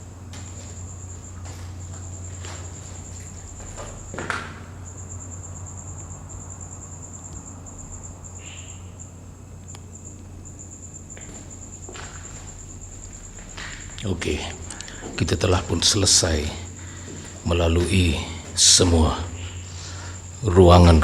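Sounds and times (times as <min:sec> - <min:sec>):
cricket trilling: 0:00.0 - 0:21.0
low steady hum: 0:00.0 - 0:21.0.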